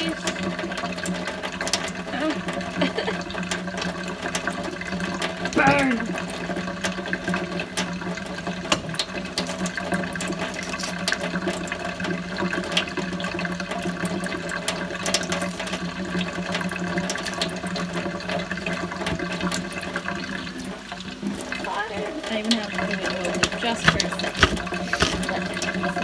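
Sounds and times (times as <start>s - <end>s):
tap running into sink: 0.0s - 26.0s.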